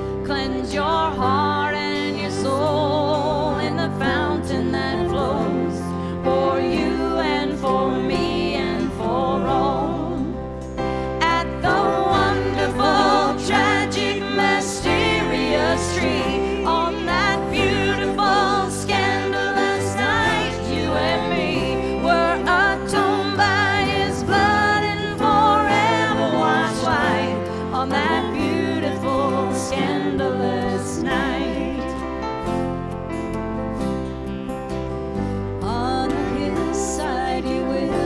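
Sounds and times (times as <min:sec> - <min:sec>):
worship band playing slow song: 0:00.0 - 0:38.0.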